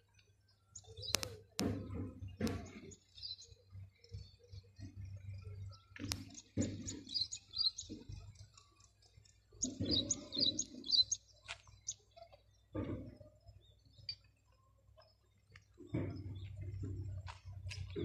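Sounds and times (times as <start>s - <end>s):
small bird chirping: 0.0s - 1.6s, 2.3s - 18.0s.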